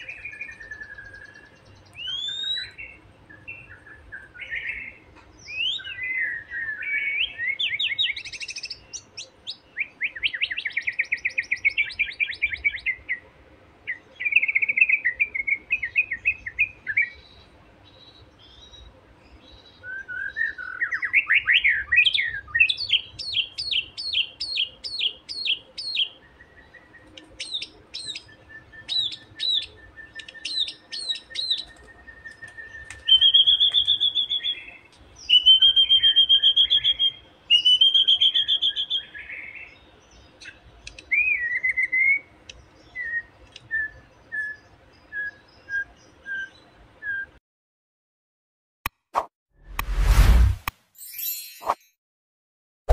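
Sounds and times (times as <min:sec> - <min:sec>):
songbird singing varied song: 0:00.0 - 0:47.4.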